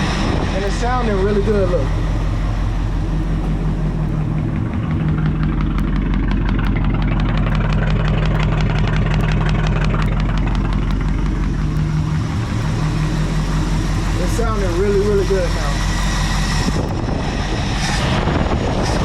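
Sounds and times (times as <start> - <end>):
fast light ticking: 0.0 - 17.1
engine idling: 0.0 - 19.0.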